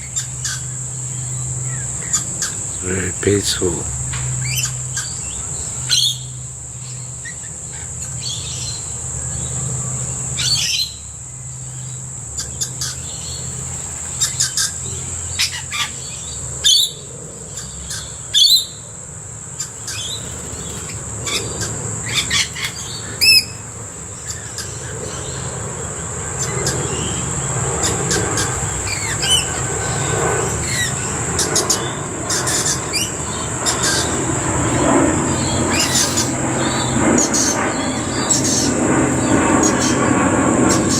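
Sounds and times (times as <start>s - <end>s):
birds chirping and squawking: 0.0s - 18.8s, 19.5s - 40.9s
high insect drone: 0.0s - 40.9s.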